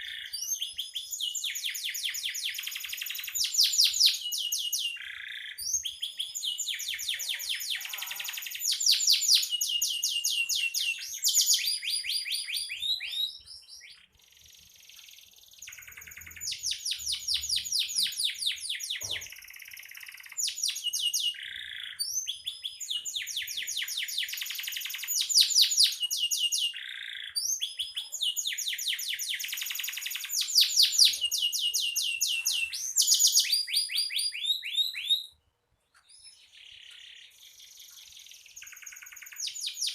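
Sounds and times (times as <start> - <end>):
canary singing rapid trills: 0.0 - 35.4, 36.1 - 39.9.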